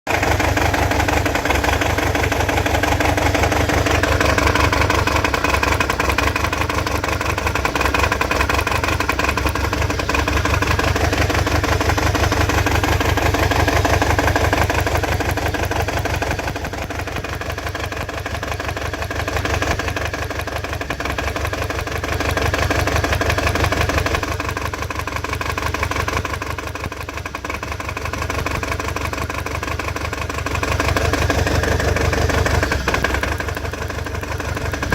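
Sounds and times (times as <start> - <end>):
engine idling with misfire: 0.1 - 34.9.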